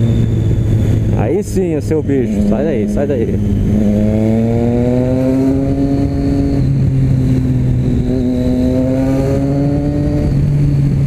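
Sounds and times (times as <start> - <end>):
motorcycle accelerating hard: 0.0 - 11.0.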